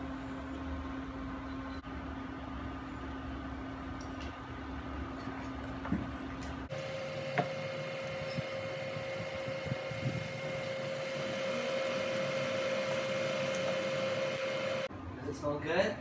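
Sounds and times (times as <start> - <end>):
high hum of cooktop: 0.0 - 16.0.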